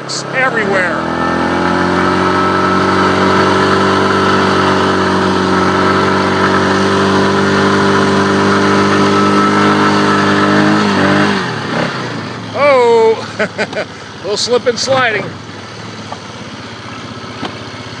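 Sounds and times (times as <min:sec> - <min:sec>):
small engine running at raised revs: 0:00.0 - 0:18.0.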